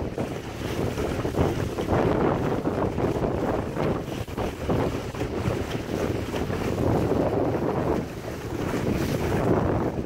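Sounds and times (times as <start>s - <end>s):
gusty wind on microphone: 0.0s - 10.0s
water lapping around boat: 0.0s - 10.0s.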